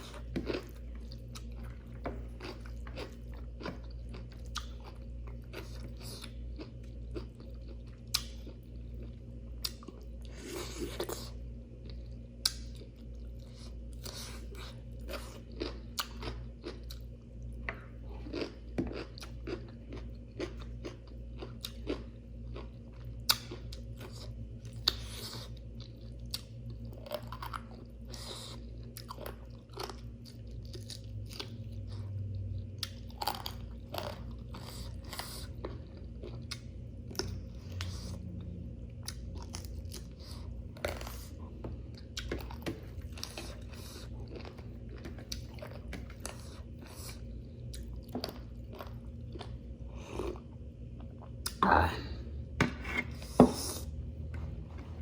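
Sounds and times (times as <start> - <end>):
person chewing crunchy food: 0.0 - 51.6
steady low hum: 0.0 - 55.0.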